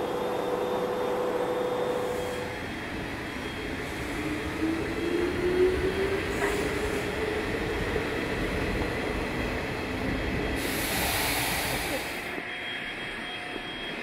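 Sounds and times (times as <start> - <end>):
train rumbling: 0.0 - 14.0
train whine: 0.0 - 14.0.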